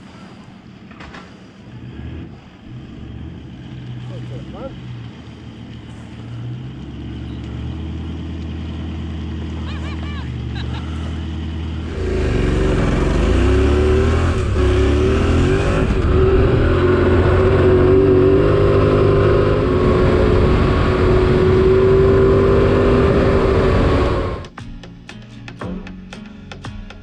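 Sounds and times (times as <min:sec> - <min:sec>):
wind and road noise: 0:00.0 - 0:24.6
motorcycle engine running: 0:00.9 - 0:24.6.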